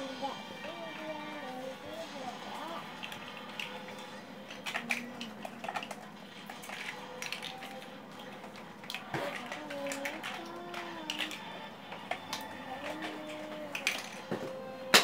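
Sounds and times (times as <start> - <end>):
plastic blocks clicking on tile floor: 2.6 - 15.0.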